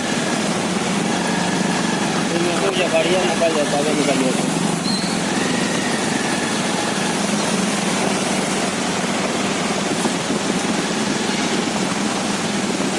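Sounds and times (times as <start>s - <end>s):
street noise with vehicle engines: 0.0s - 12.9s.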